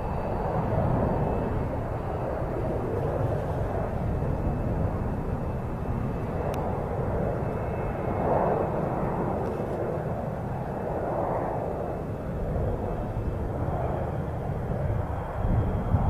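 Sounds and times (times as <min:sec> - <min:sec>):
distant jet rumble: 0:00.0 - 0:16.0.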